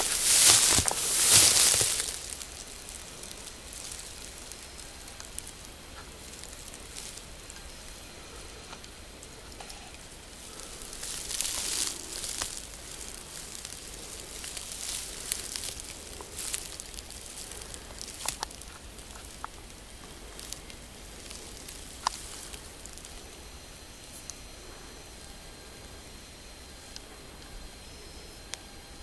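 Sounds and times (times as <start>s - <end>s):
outdoor hiss: 0.0s - 25.0s
crackling rustle: 0.0s - 28.7s.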